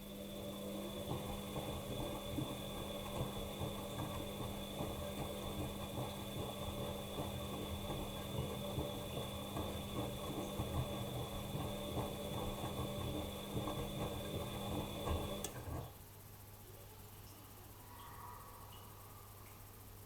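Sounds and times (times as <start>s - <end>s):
washing machine motor hum and whine: 0.0s - 16.4s.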